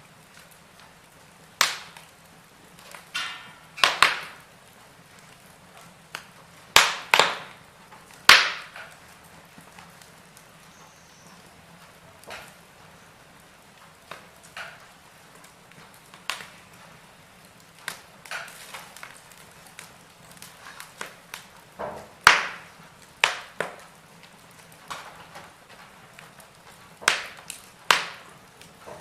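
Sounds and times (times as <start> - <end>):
faint steady hiss: 0.0 - 29.0
wood fire crackling: 0.0 - 29.0.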